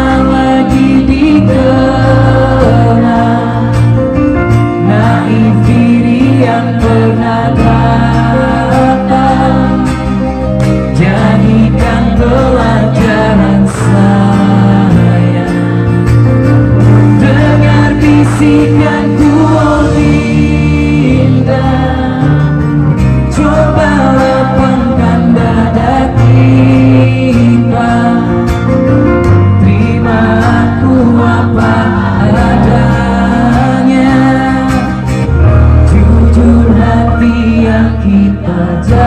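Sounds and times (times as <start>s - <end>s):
live pop band playing: 0.0s - 39.0s
person singing: 0.0s - 39.0s.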